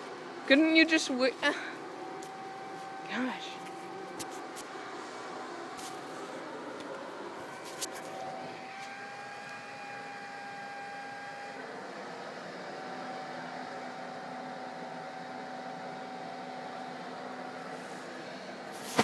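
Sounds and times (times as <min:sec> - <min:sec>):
machine hum with faint whine: 0:00.0 - 0:19.0.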